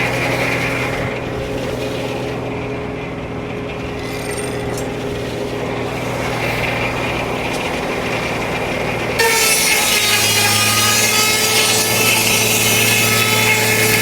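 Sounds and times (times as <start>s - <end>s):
circular saw blade spinning: 0.0s - 14.0s.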